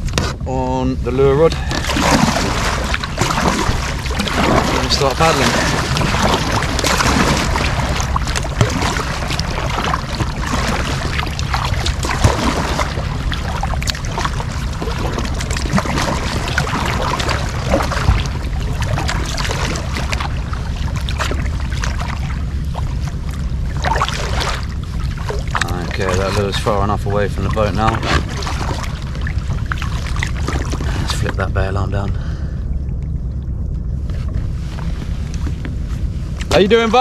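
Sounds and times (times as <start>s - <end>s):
wind rumble on microphone: 0.0s - 37.0s
sharp splashes or knocks: 1.5s - 32.1s
kayak paddle dipping into water: 1.6s - 31.4s.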